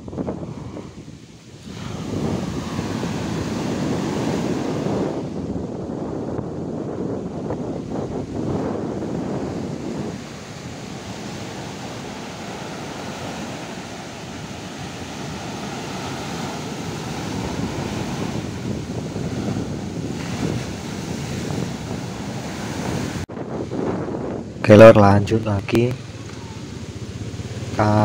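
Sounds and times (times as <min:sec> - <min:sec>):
ocean waves breaking: 0:00.0 - 0:24.6, 0:25.4 - 0:28.0
wind buffeting microphone: 0:00.0 - 0:28.0.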